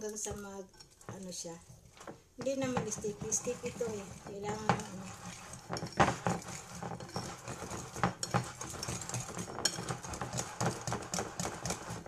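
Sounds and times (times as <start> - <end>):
whisk clicking on glass bowl: 0.0 - 12.0.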